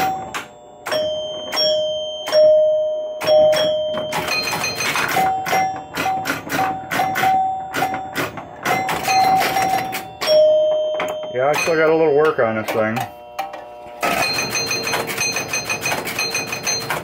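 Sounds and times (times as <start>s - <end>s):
high pinball chime: 0.0s - 17.0s
low pinball chime: 0.0s - 17.0s.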